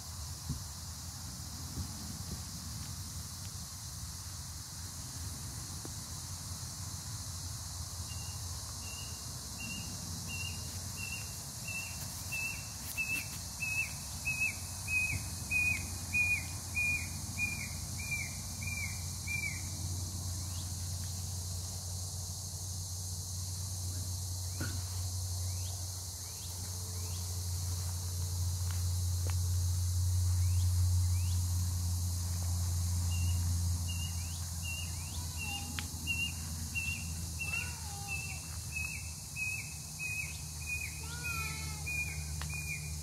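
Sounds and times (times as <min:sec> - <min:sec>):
steady low hum: 0:00.0 - 0:41.1.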